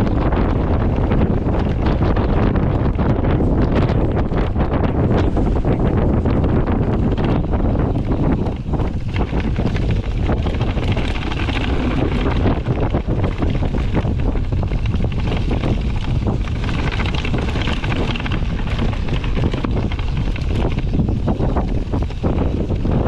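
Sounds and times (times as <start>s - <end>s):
bike tyre roar: 0.0s - 23.0s
mountain bike rattling and knocking: 0.0s - 23.0s
wind buffeting microphone: 0.0s - 23.0s.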